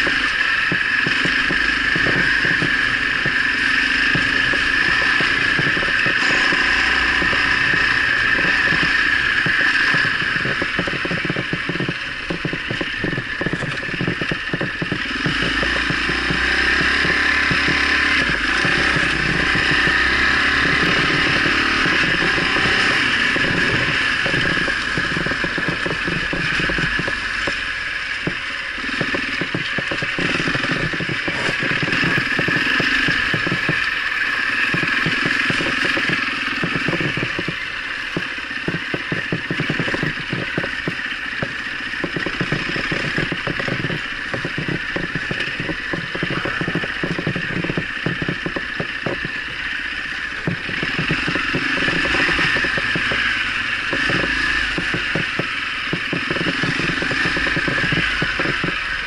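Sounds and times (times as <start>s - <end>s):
bike clattering over rocks: 0.0s - 49.7s, 50.4s - 58.9s
motorcycle engine revving: 0.0s - 59.0s.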